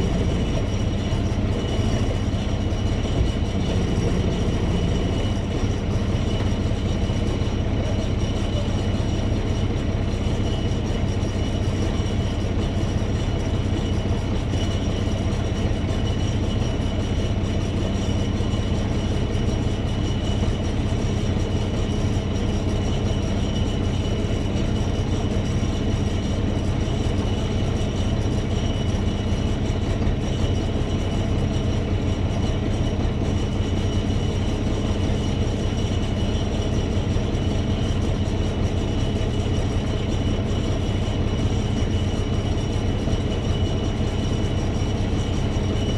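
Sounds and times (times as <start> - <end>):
heavy vehicle engine running: 0.0 - 45.9.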